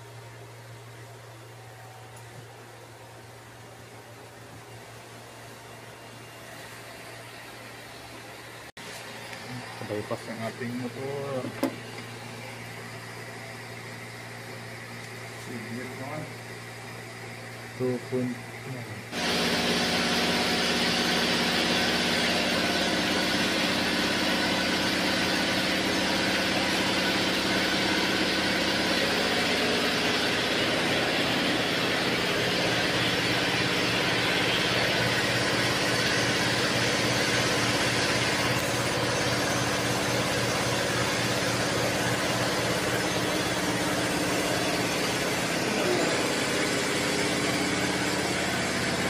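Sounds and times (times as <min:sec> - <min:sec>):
pump motor humming with hiss: 0:00.0 - 0:49.0.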